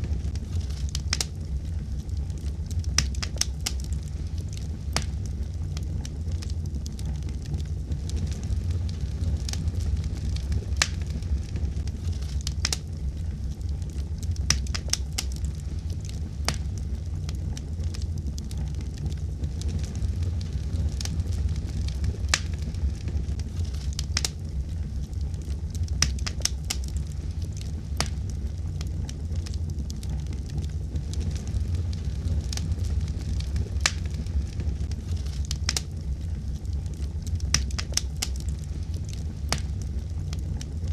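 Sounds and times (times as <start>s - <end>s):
fireplace fire crackling: 0.0s - 40.9s
sharp pops of fire: 0.0s - 40.9s
steady low rumble: 0.0s - 40.9s.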